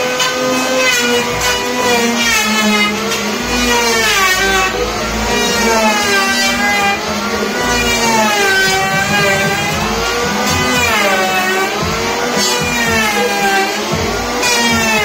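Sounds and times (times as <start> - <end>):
electric wood planer cutting: 0.0 - 15.0.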